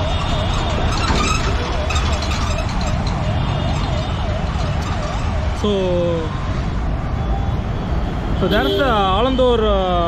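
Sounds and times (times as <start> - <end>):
emergency siren wailing: 0.0 - 8.2
road traffic rumble: 0.0 - 10.0.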